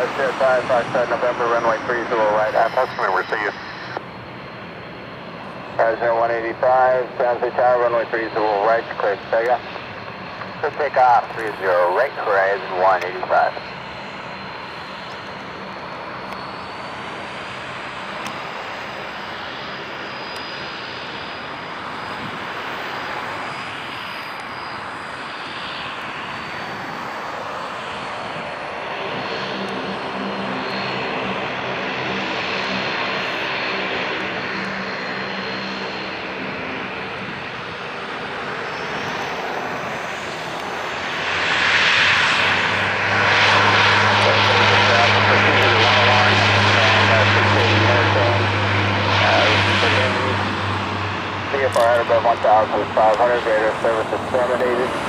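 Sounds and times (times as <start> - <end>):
low propeller drone: 0.0 - 55.0
turboprop turbine whine: 0.0 - 55.0.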